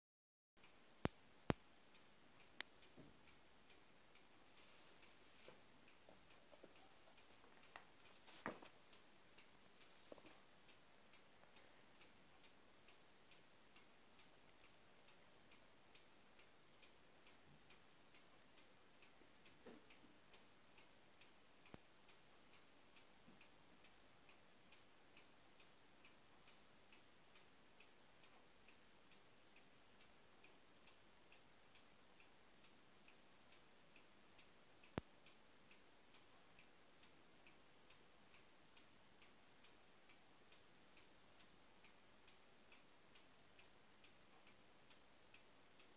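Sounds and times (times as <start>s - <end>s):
clock ticking: 0.6s - 45.9s.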